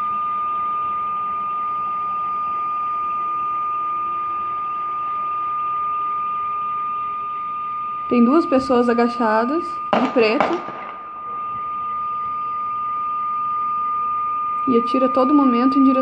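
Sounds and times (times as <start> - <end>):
continuous high-pitched beep: 0.0 - 16.0.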